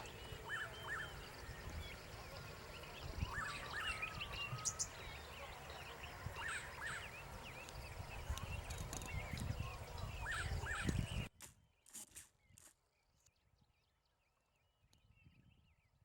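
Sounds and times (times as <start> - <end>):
wild birds chirping: 0.0 - 16.0.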